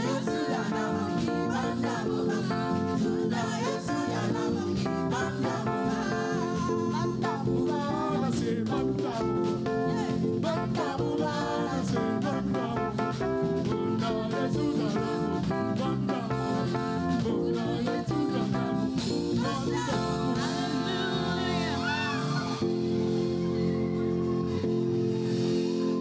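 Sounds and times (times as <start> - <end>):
voices singing: 0.0 - 24.6
church band playing: 0.0 - 26.0.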